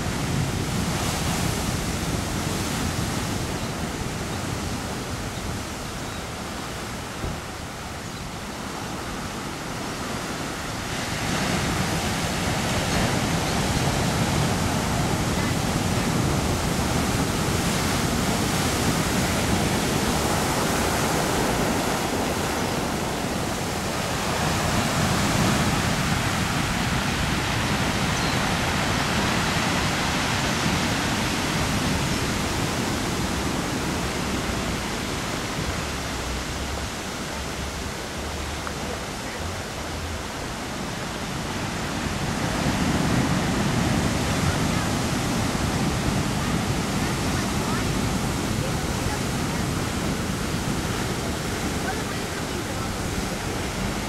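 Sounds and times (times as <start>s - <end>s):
ocean surf on rocks: 0.0s - 54.0s.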